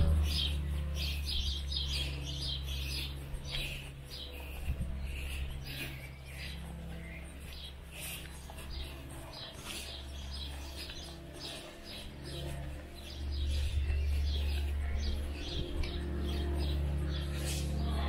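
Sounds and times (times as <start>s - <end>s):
low rumble: 0.0s - 18.0s
songbirds chirping: 0.0s - 18.0s.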